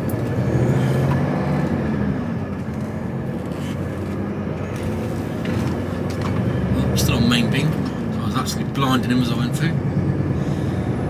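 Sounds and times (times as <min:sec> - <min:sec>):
lorry diesel engine drone: 0:00.0 - 0:11.0
road noise: 0:00.0 - 0:11.0.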